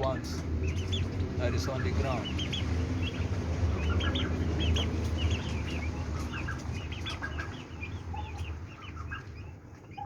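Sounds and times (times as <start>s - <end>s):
turkey poults peeping: 0.0s - 10.0s.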